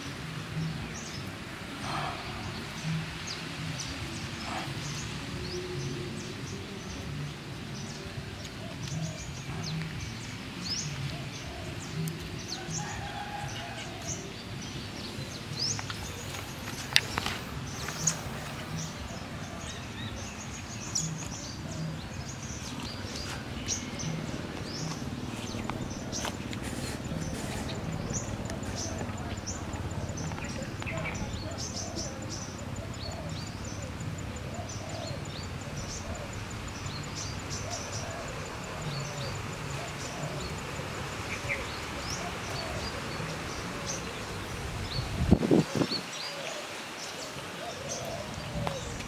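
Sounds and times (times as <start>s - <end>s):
birds chirping: 0.0s - 49.0s
outdoor background hiss: 0.0s - 49.0s.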